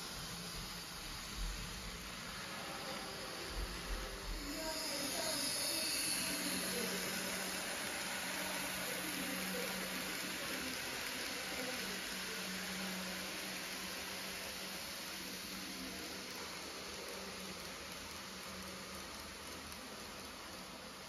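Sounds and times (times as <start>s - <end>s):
model train humming: 0.0s - 21.0s.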